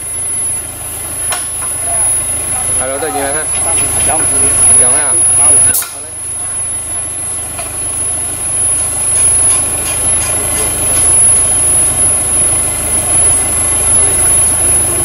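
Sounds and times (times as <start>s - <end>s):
high-pitched whine: 0.0s - 15.0s
vehicle engine humming: 0.0s - 15.0s.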